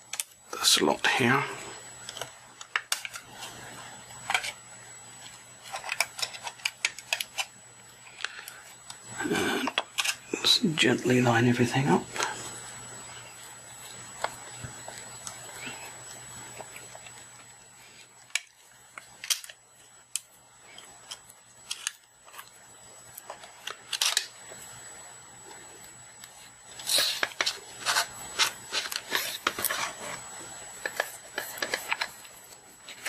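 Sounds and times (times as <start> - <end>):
faint high whine: 0.0 - 33.0.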